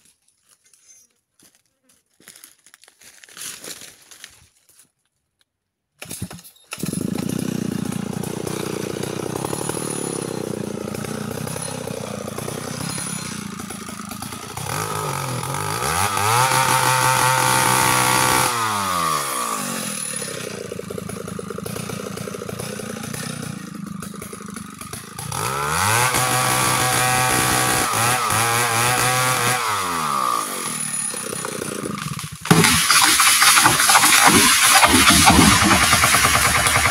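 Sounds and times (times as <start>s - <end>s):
chainsaw cutting and revving: 6.7s - 36.9s.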